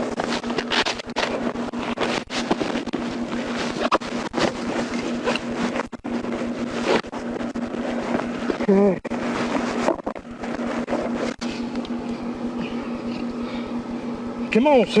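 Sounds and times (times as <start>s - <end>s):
rustling and rubbing on microphone: 0.0s - 12.4s
steady low hum: 0.0s - 15.0s.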